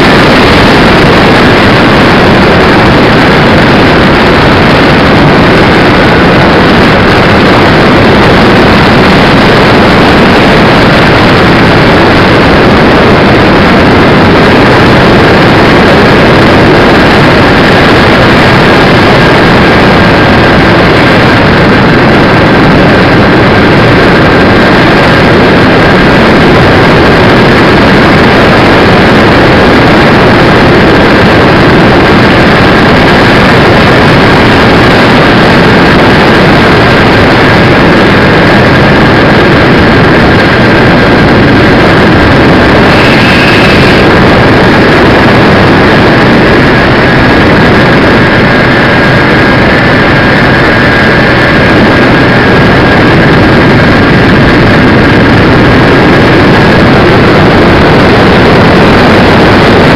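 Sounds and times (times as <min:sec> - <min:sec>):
air rush: 0:00.0 - 0:59.9
model plane engines and propellers: 0:00.0 - 0:59.9
thin steady whine: 0:00.0 - 0:59.9.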